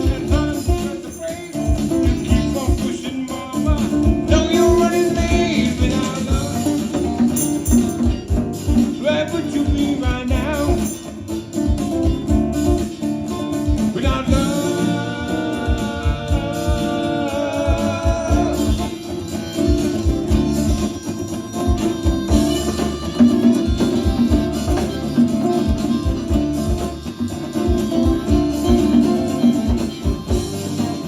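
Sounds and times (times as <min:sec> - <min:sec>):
person singing: 0:00.0 - 0:08.0, 0:08.8 - 0:11.3, 0:13.8 - 0:31.0
bass: 0:00.0 - 0:31.0
drum beat: 0:00.0 - 0:31.0
guitar: 0:00.0 - 0:31.0.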